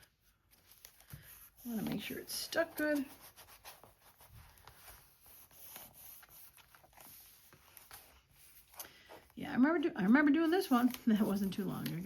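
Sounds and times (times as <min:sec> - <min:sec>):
fingers rubbing paper: 0:01.0 - 0:09.3, 0:10.0 - 0:12.0.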